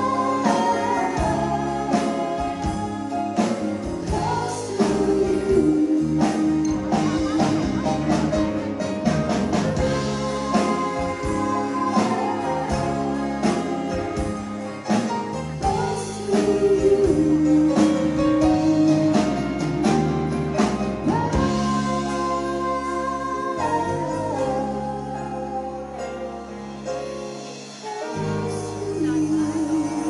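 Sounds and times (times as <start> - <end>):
woman singing into a microphone: 0.0 - 8.2, 9.8 - 20.0, 20.8 - 26.6, 27.8 - 30.0
live band playing: 0.0 - 30.0.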